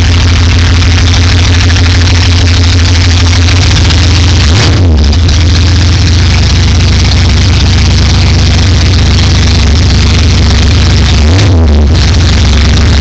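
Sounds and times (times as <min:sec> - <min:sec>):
car engine idling loudly: 0:00.0 - 0:13.0.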